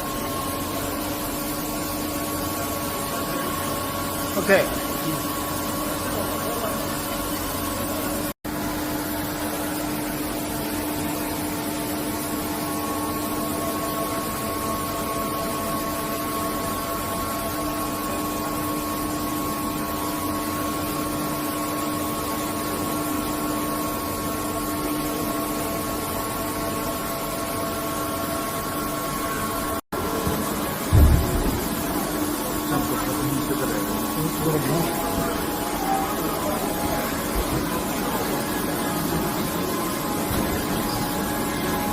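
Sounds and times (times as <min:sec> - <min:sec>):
mill machine hum with whining tones: 0:00.0 - 0:41.9.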